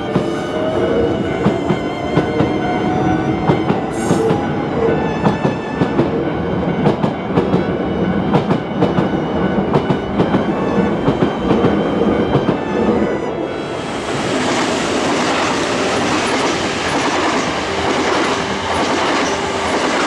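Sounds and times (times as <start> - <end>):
electric train running by: 0.0 - 20.0.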